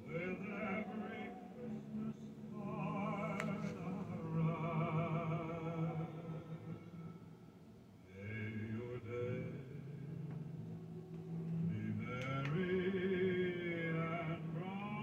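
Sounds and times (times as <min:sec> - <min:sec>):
operatic singing with vibrato: 0:00.0 - 0:15.0.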